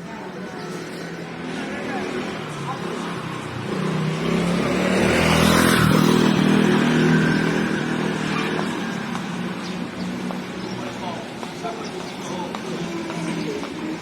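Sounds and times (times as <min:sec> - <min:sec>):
motor vehicle passing: 0:00.0 - 0:14.0.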